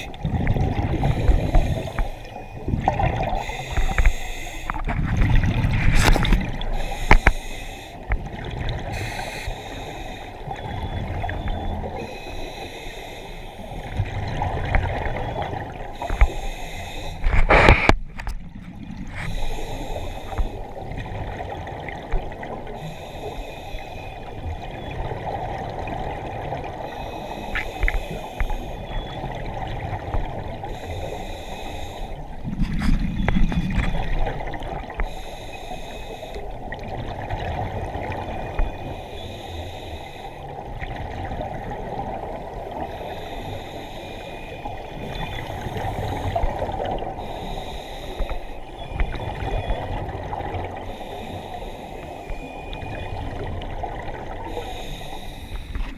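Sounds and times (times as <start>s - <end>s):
exhaled air bubbling underwater: 0.0s - 55.9s.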